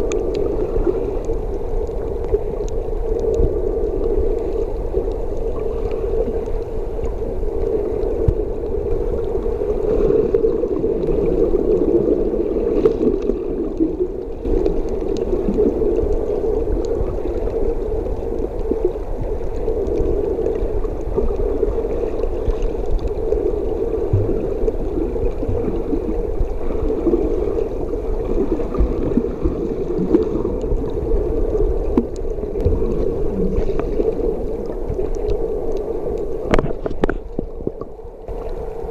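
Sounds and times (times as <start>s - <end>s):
muffled underwater rush: 0.0s - 38.9s.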